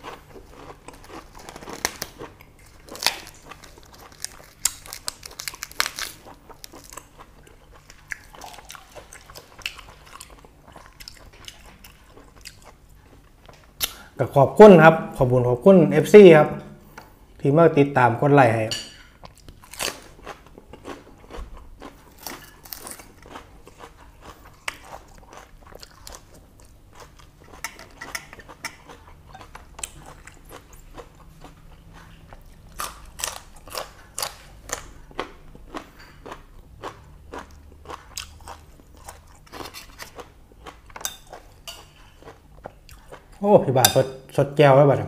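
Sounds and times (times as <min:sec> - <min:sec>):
person chewing and crunching: 0:00.0 - 0:14.1, 0:19.2 - 0:44.0.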